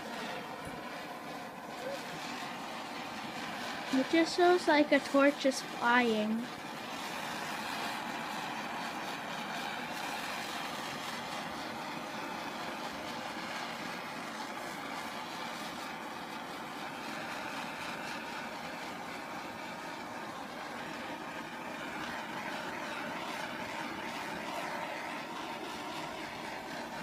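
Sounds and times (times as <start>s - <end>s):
propane torch hissing: 0.0s - 27.0s.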